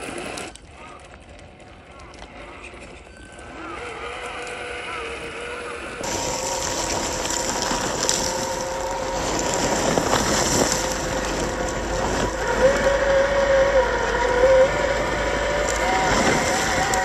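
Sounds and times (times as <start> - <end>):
toy car motor whining: 1.8 - 17.0.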